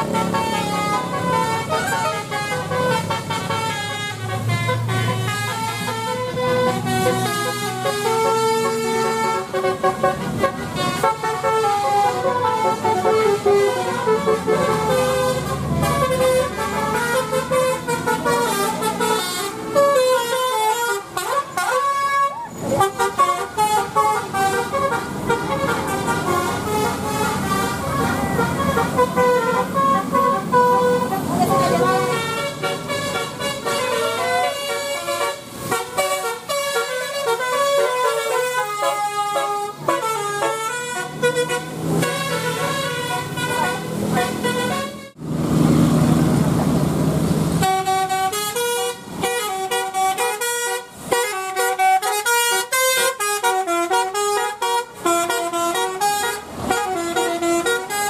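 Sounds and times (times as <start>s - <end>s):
bus engine noise: 0.0s - 58.0s
multi-tone bus horns playing melodies: 0.0s - 58.0s.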